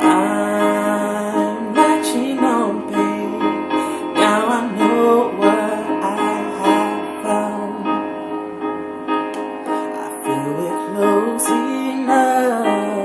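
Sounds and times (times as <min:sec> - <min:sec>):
person singing: 0:00.0 - 0:08.2, 0:09.7 - 0:13.0
sustained keyboard chords: 0:00.0 - 0:13.0.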